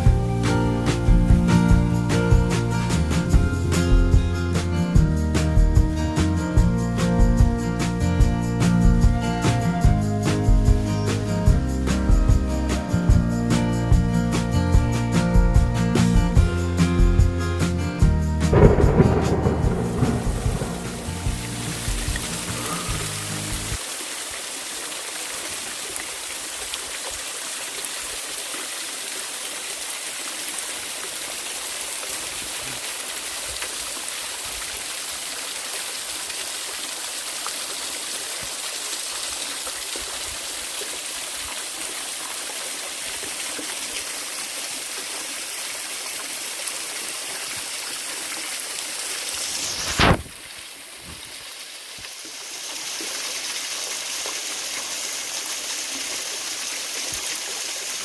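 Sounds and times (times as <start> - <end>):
water rushing: 0.0 - 13.2, 15.2 - 58.0.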